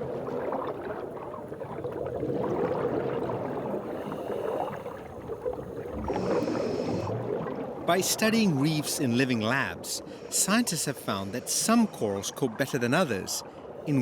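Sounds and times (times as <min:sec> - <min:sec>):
water churning and bubbling: 0:00.0 - 0:14.0.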